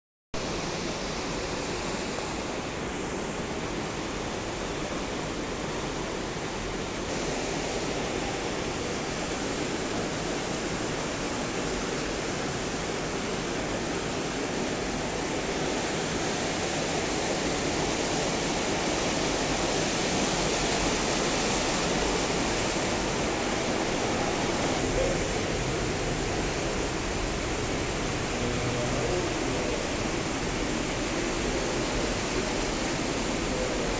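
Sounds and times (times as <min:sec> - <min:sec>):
sewer water rushing: 0:00.4 - 0:33.9.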